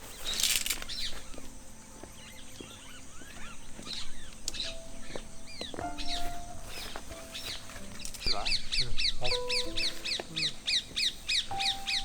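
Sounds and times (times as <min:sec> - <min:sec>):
birds chirping: 0:00.0 - 0:12.0
soft background music: 0:00.0 - 0:12.0.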